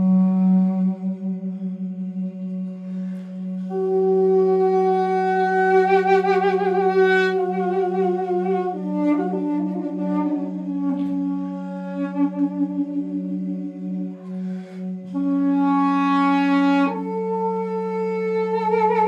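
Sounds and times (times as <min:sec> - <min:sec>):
duduk drone: 0:00.0 - 0:19.0
duduk melody with vibrato: 0:00.0 - 0:19.0.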